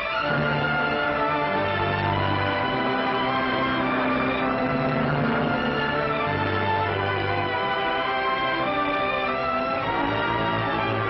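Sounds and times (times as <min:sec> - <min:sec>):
strings holding notes: 0:00.0 - 0:11.0.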